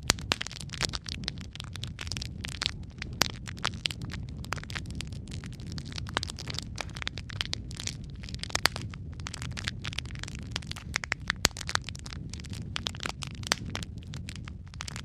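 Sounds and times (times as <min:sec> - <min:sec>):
fire pops and snaps: 0:00.0 - 0:15.0
low rumble of flames: 0:00.0 - 0:15.0
sharp loud fire cracks: 0:00.0 - 0:15.0.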